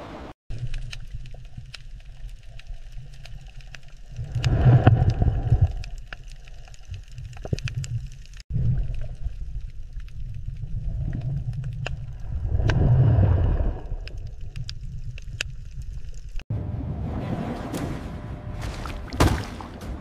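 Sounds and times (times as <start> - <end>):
underwater ocean rumble: 0.5 - 17.7.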